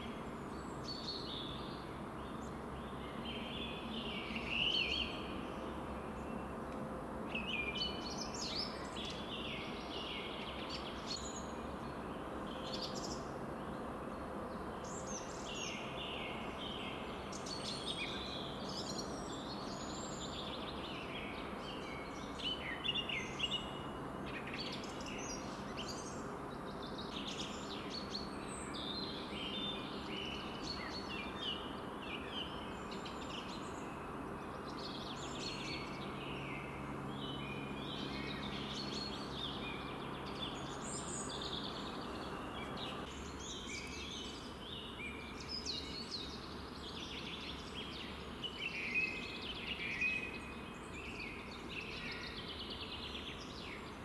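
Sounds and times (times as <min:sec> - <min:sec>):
songbirds chirping and singing: 0:00.0 - 0:54.0
wind hissing in trees: 0:00.0 - 0:54.0.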